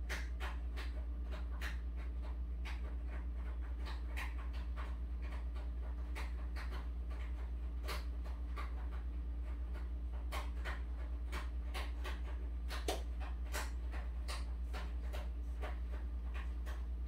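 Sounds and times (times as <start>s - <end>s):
small irregular clicks: 0.0s - 17.0s
steady low hum: 0.0s - 17.0s.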